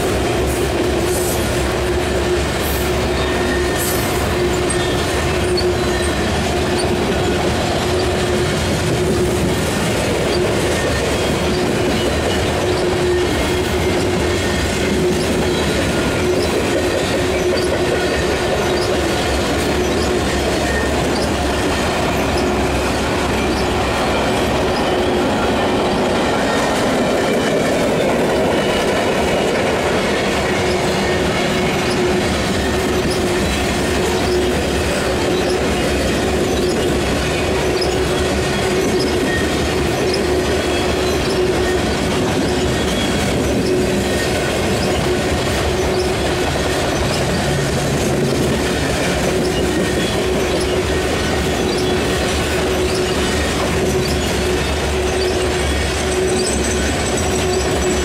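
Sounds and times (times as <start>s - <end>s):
train wheels clacking on rails: 0.0s - 58.0s.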